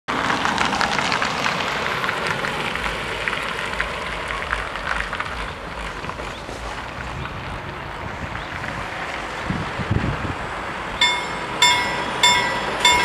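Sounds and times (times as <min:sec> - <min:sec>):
low engine rumble: 0:00.1 - 0:13.0
road traffic noise: 0:00.1 - 0:13.0.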